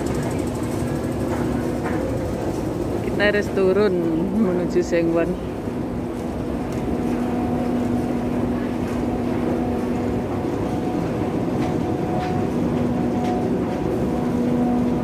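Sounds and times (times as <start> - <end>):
escalator humming: 0.0 - 15.0.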